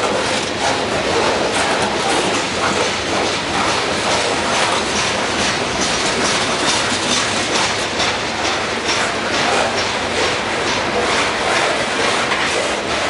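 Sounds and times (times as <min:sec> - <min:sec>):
train wheels rumbling on rail: 0:00.0 - 0:13.0
wheels clacking over rail joints: 0:00.0 - 0:13.0.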